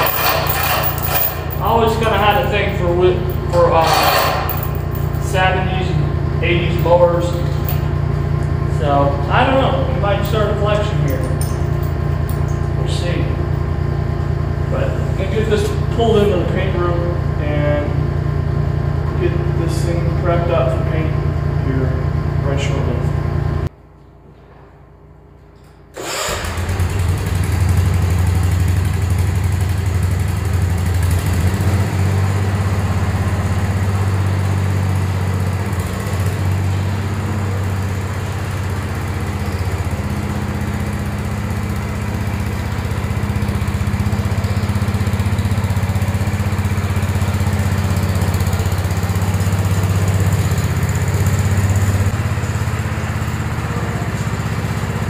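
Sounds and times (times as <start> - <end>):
lawn tractor engine running: 0.0 - 22.4, 26.0 - 55.0.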